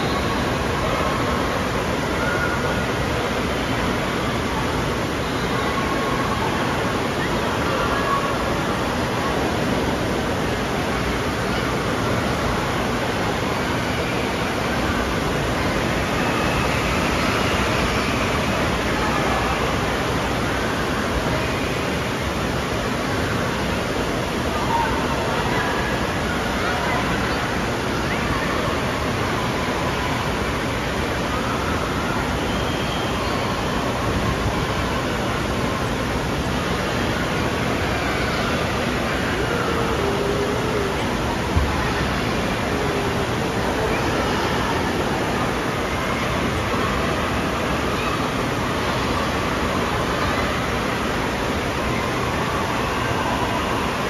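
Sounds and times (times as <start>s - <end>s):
faint voices: 0.0s - 54.0s
rushing water: 0.0s - 54.0s.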